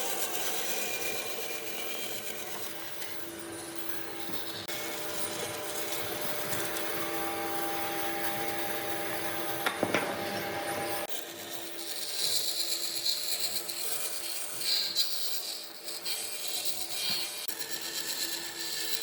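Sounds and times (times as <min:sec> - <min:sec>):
power tool rasping on wood: 0:00.0 - 0:19.0.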